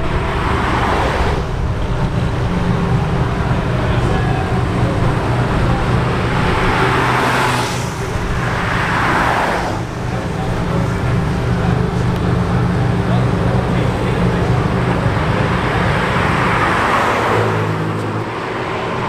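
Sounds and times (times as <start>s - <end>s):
car engine idling: 0.0s - 18.4s
passing traffic rushing: 0.0s - 19.0s.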